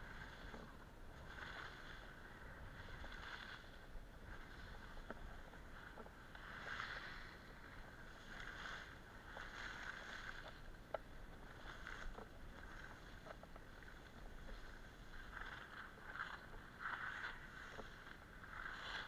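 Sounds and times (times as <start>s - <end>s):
skis swishing over snow: 0.0s - 19.0s.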